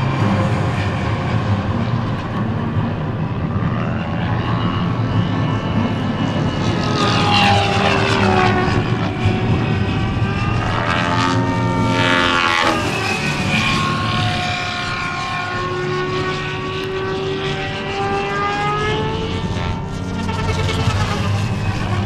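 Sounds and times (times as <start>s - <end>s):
model helicopter rotor whine: 0.0s - 22.0s.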